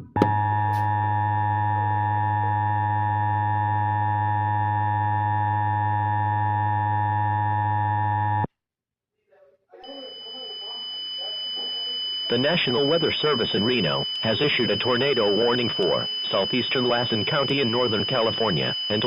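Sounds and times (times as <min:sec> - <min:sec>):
two-tone alarm: 0:00.0 - 0:08.5, 0:09.8 - 0:19.0.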